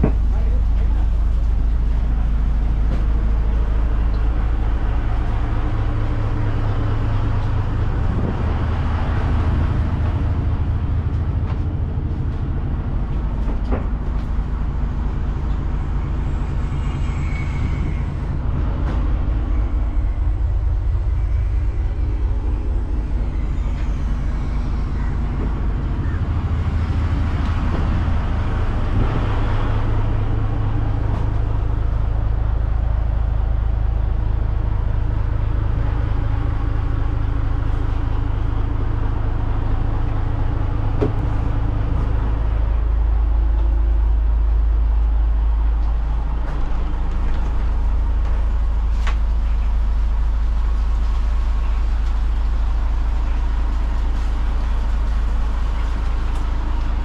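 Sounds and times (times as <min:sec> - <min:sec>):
large engine running: 0:00.0 - 0:57.0.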